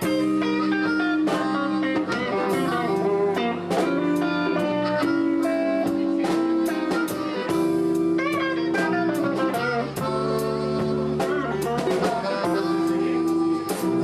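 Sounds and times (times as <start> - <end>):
bass: 0.0 - 14.0
blues guitar with bent notes: 0.0 - 14.0
drum kit with cymbal hits: 0.0 - 14.0.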